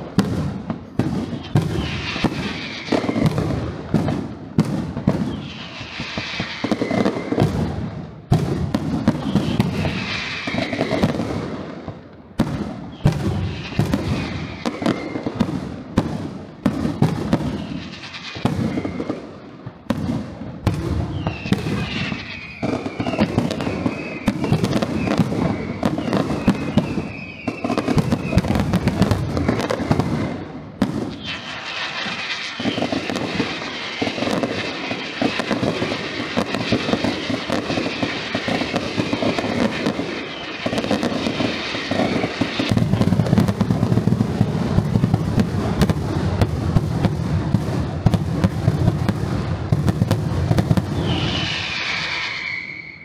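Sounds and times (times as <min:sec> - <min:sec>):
fireworks bursting: 0:00.0 - 0:53.0
fireworks whistling: 0:00.0 - 0:53.0.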